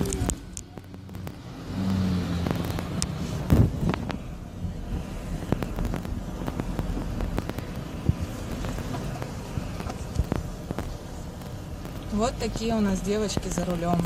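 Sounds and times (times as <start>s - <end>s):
car engine and road hum: 0.0s - 14.0s.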